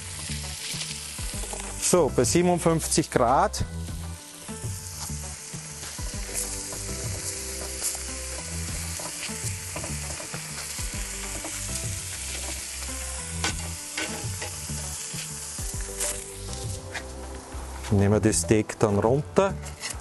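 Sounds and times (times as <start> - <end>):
steak sizzling on grill: 0.0 - 18.6.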